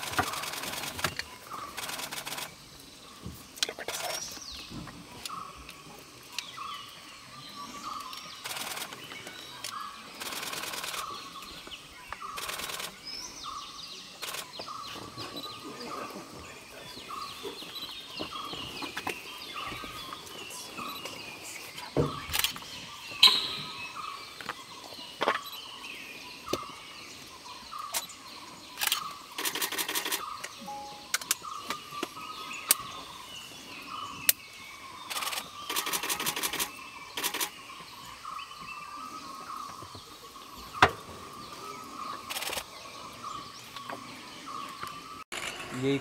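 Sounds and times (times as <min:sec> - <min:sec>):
forest birds calling: 0:00.0 - 0:46.0.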